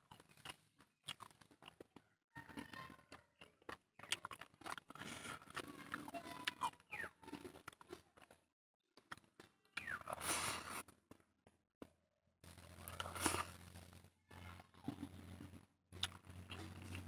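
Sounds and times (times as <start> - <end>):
chewing: 0.0 - 10.9, 12.4 - 17.0.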